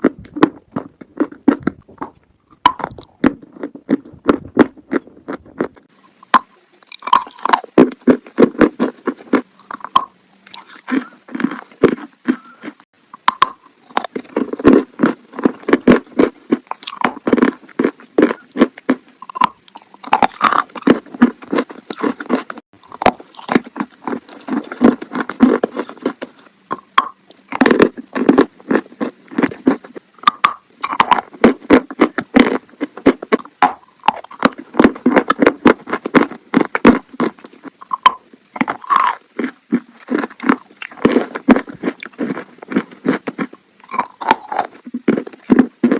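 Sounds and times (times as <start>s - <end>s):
person chewing crunchy chalk: 0.0s - 45.9s.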